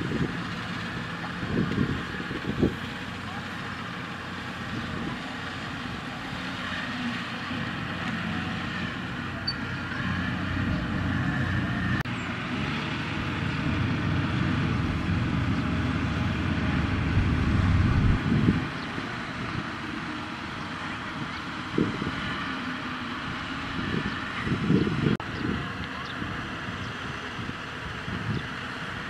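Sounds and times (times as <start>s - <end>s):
combine harvester running: 0.0s - 29.0s
tractor hauling trailer: 0.0s - 29.0s.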